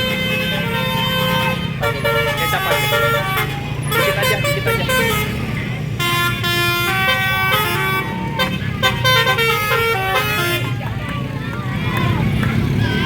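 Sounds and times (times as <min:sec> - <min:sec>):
multi-tone bus horns playing tune: 0:00.0 - 0:11.3
bus engines running: 0:00.0 - 0:13.0.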